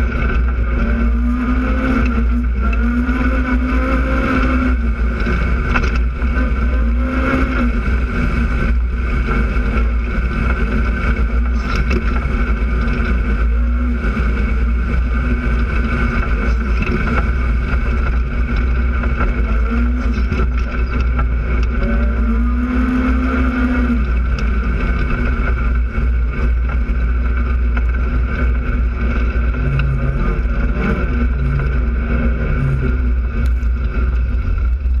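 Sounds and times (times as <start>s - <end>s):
heavy low rumble: 0.0s - 35.0s
off-road vehicle engine running: 0.0s - 35.0s.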